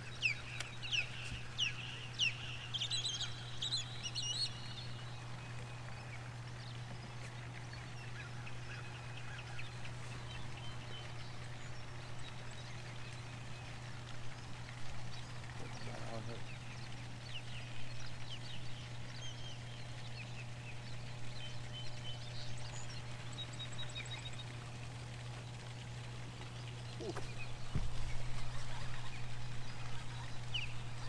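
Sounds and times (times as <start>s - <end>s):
birds calling: 0.0s - 31.0s
steady low hum: 0.0s - 31.0s.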